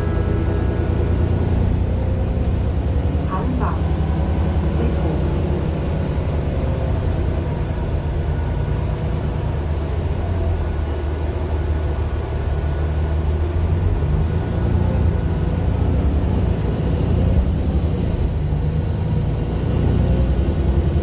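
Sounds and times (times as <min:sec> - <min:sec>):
diesel bus engine humming: 0:00.0 - 0:21.0.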